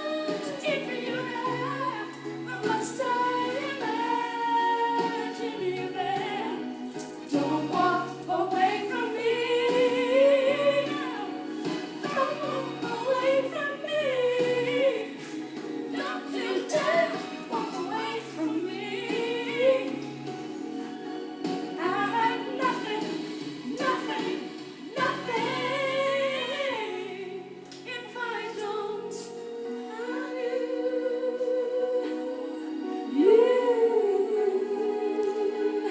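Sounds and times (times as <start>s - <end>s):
woman singing: 0.0s - 20.2s, 21.7s - 35.9s
musical backing: 0.0s - 35.9s.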